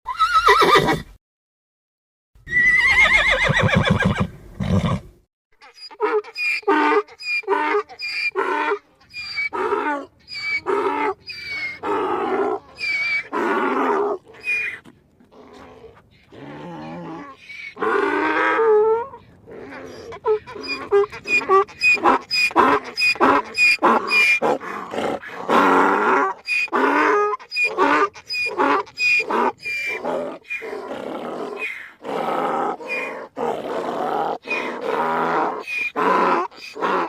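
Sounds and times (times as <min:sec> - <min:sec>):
cartoon donkey braying: 0:05.6 - 0:37.0.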